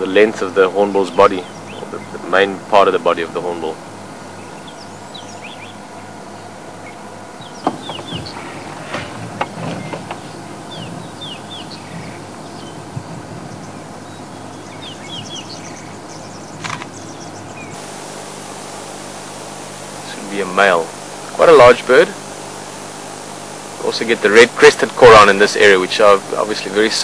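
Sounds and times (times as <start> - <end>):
low background hum: 0.0 - 27.0
small birds chirping: 0.4 - 2.4, 4.3 - 8.7, 9.8 - 12.9, 13.5 - 27.0.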